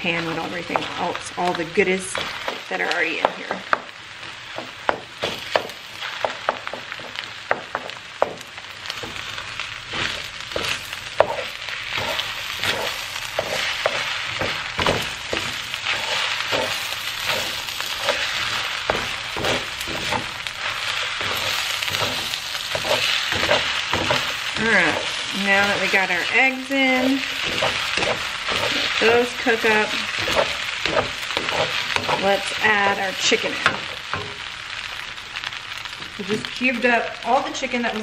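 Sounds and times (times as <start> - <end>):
wooden spatula scraping wok: 0.0 - 34.5
rice sizzling in a wok: 0.0 - 38.0.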